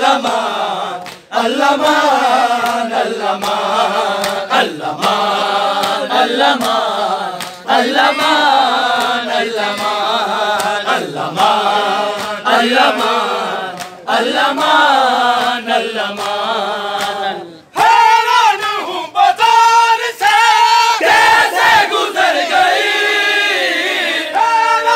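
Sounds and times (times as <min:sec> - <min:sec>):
men chanting in unison: 0:00.0 - 0:24.9.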